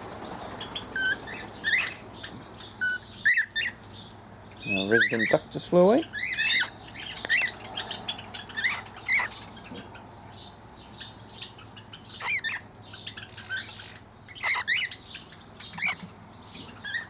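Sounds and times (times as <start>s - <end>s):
birds chirping softly: 0.0s - 17.0s
birds squawking loudly: 0.0s - 17.0s.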